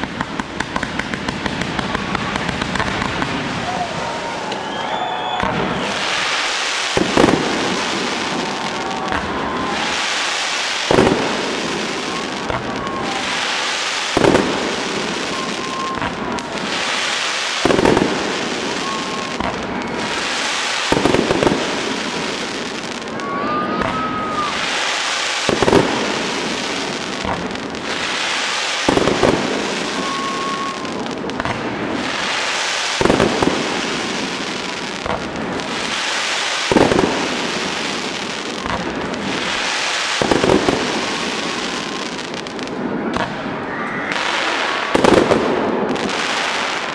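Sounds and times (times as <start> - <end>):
fireworks booming: 0.0 - 46.9
fireworks crackling and hissing: 0.0 - 46.9.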